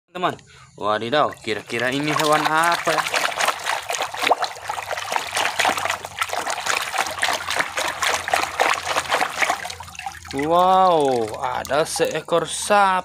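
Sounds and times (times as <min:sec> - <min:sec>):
water splashing in a basin: 0:01.1 - 0:12.8.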